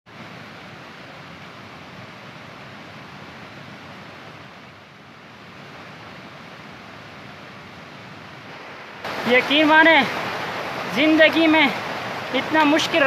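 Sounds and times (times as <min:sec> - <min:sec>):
fast-flowing stream rushing: 0:00.1 - 0:13.0.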